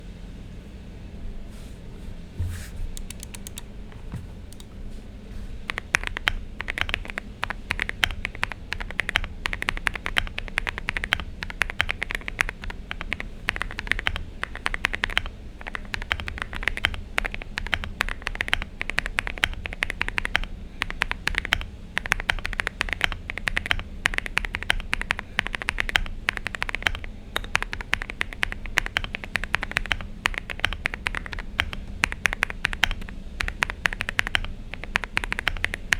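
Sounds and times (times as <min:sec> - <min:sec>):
mechanical keyboard typing: 0:03.0 - 0:04.7, 0:05.6 - 0:35.9.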